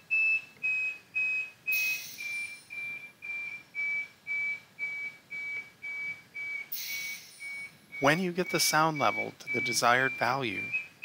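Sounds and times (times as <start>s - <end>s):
high-pitched alarm beeping: 0.0s - 11.0s.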